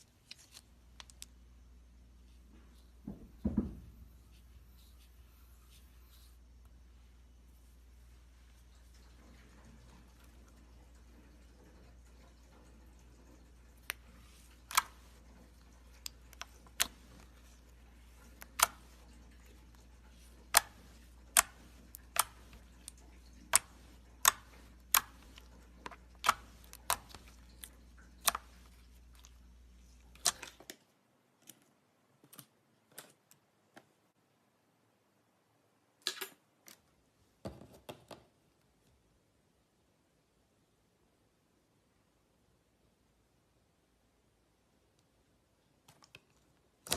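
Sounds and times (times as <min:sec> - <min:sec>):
low background hum: 0:00.0 - 0:46.9.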